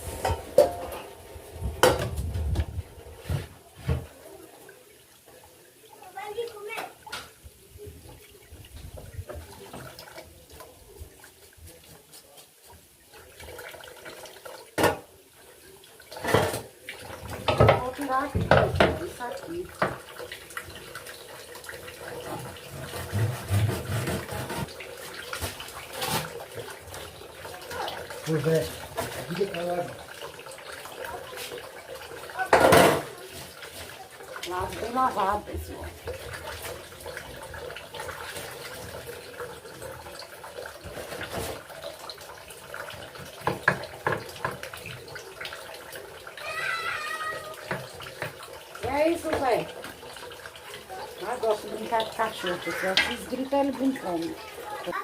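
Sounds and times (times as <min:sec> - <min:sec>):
dishes clattering in a sink: 0:00.0 - 0:04.3, 0:06.7 - 0:07.4, 0:13.4 - 0:15.2, 0:16.0 - 0:55.0
water running and splashing: 0:00.0 - 0:55.0.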